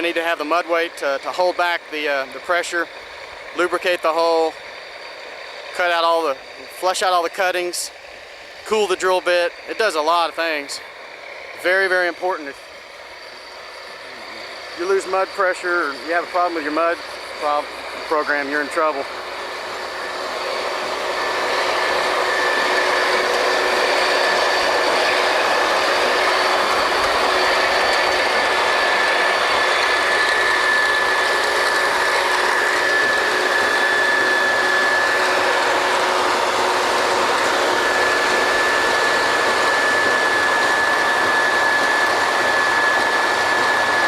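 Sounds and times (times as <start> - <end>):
drilling rig machinery running: 0.0 - 44.0
high mechanical whine: 0.0 - 44.0.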